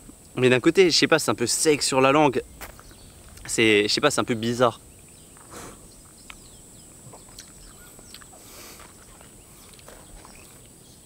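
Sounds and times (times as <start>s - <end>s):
steady high-pitched buzz: 0.0s - 11.0s.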